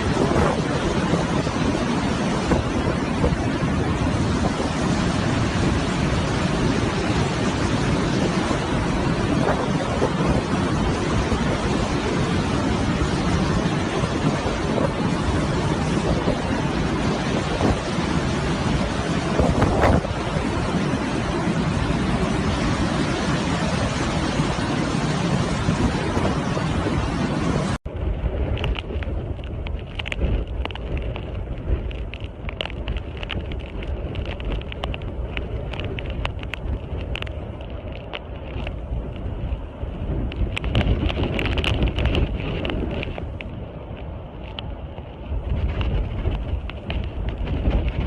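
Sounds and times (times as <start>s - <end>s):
low rumble: 0.0s - 48.0s
wind buffeting microphone: 0.0s - 48.0s.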